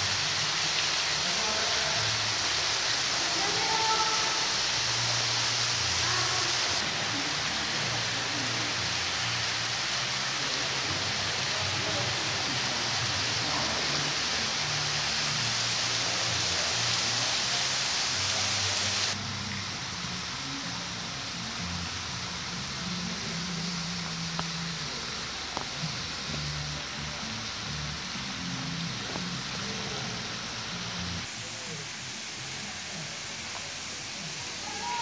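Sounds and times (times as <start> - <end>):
water streams splashing into pool: 0.0 - 20.4, 22.4 - 35.0.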